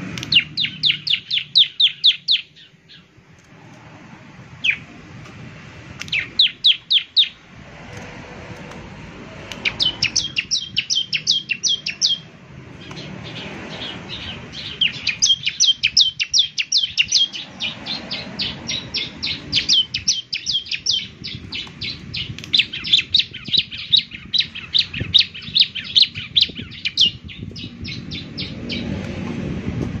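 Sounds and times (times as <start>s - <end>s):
bird singing rapid high notes: 0.2s - 3.2s, 4.5s - 4.9s, 6.0s - 7.5s, 9.5s - 29.0s.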